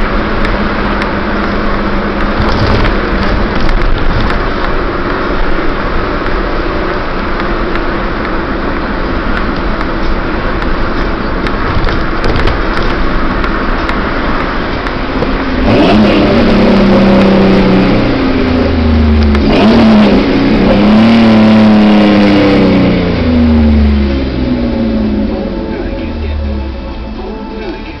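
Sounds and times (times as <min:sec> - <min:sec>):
truck engine accelerating: 0:00.0 - 0:28.0.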